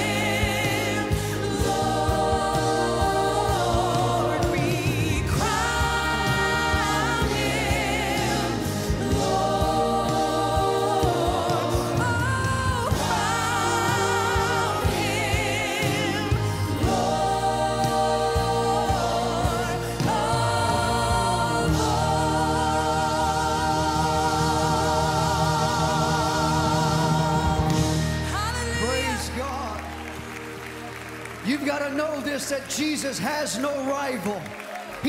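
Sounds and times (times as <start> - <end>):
backing singers singing: 0.0 - 29.4
lead singer singing: 0.0 - 29.4
band playing gospel music: 0.0 - 35.0.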